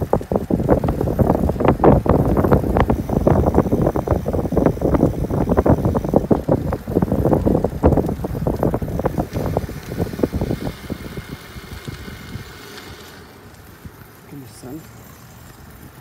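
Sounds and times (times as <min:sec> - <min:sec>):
trike road rumble and rattle: 0:00.0 - 0:16.0
wind buffeting microphone: 0:00.0 - 0:16.0.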